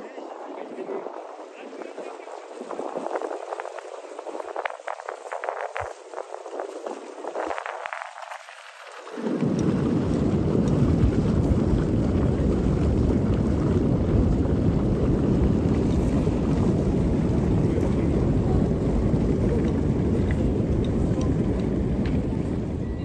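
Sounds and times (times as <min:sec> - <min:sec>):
floodwater rushing over rocks: 0:00.0 - 0:23.0.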